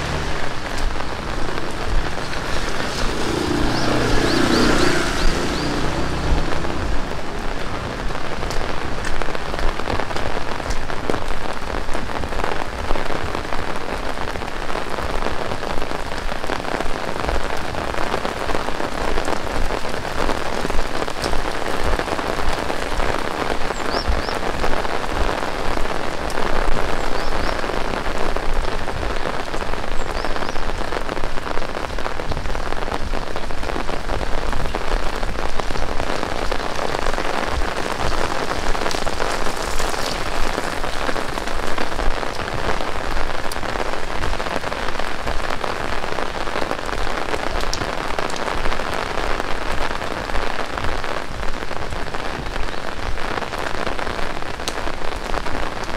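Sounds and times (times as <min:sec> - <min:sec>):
heavy rain pattering: 0:00.0 - 0:55.9.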